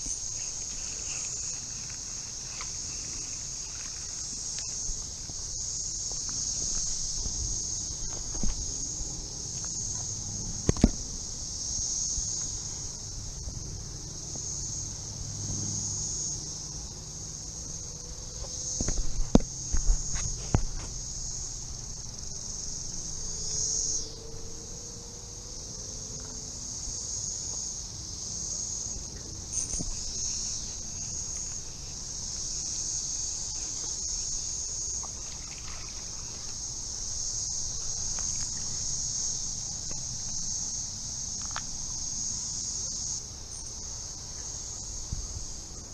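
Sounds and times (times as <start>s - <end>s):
cicadas droning: 0.0s - 45.9s.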